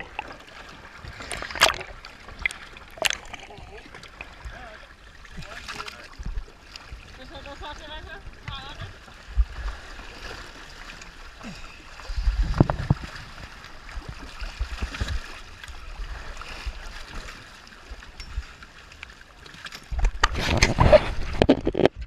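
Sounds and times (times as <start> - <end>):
seawater sloshing and splashing: 0.0 - 22.0.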